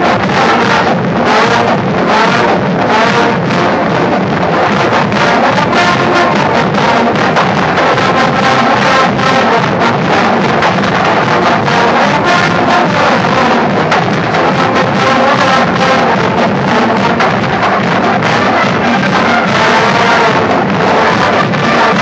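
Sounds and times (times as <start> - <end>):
marching band brass: 0.0 - 22.0
steady drumbeat: 0.0 - 22.0.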